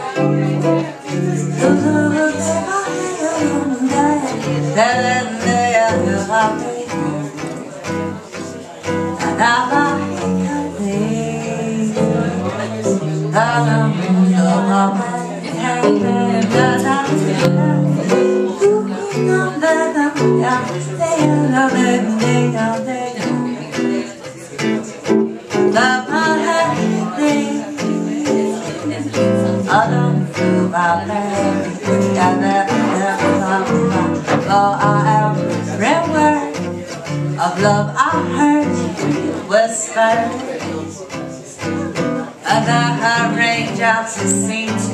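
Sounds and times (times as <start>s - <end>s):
jazz guitar chords: 0.0s - 44.9s
wordless melodic lead line: 0.0s - 44.9s.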